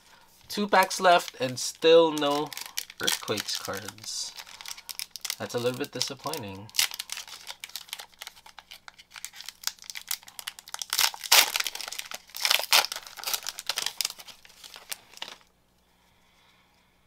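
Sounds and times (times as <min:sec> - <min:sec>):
plastic wrapper tearing and crinkling: 0:00.7 - 0:15.5.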